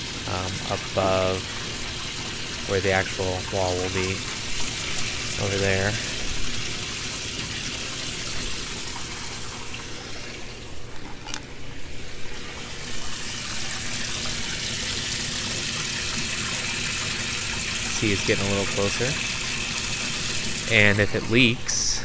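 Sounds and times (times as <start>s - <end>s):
water running into grow bed: 0.0s - 22.0s.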